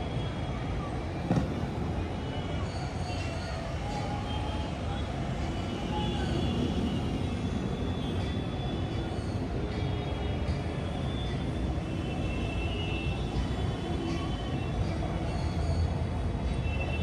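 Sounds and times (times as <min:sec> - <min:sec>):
low rumble of urban traffic: 0:00.0 - 0:17.0.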